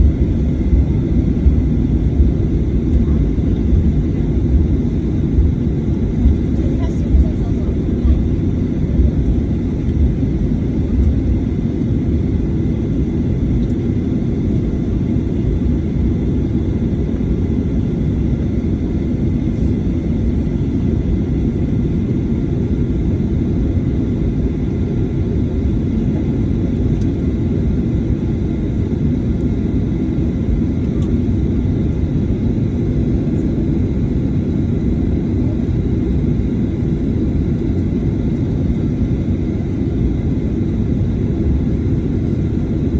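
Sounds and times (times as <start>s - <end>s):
low airplane cabin rumble: 0.0s - 42.9s.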